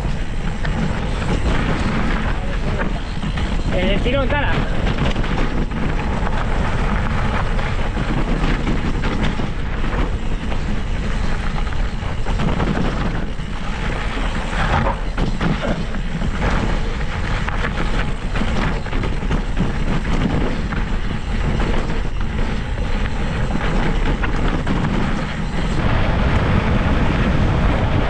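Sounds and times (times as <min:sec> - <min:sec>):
bike rattling on rocks: 0:00.0 - 0:25.8
tyres rumbling on dirt: 0:00.0 - 0:28.0
wind on microphone: 0:00.0 - 0:28.0.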